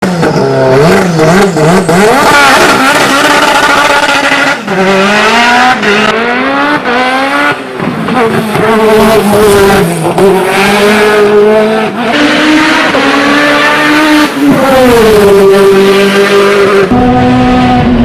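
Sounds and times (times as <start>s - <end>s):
turbocharged car engine revving: 0.0s - 18.0s.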